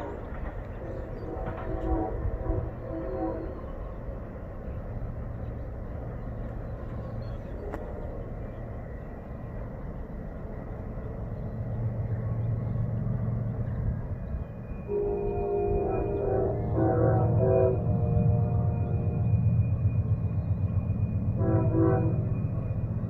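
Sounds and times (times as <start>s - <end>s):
diesel freight train rumbling: 0.0s - 23.0s.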